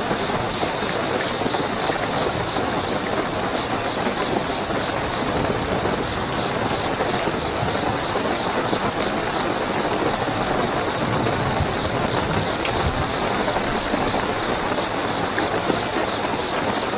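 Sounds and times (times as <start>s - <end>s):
heavy rainfall: 0.0s - 16.9s
night crickets trilling: 0.0s - 16.9s.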